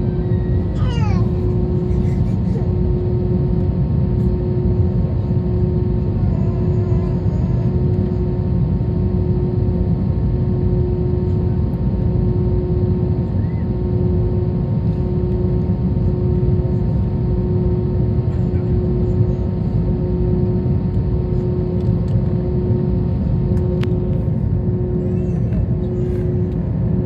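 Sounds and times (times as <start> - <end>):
aircraft cabin rumble: 0.0 - 27.0
constant hum tone: 0.0 - 27.0.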